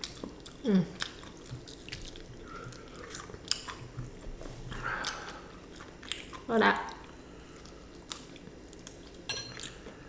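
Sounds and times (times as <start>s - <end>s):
chewing crispy food: 0.0s - 10.0s.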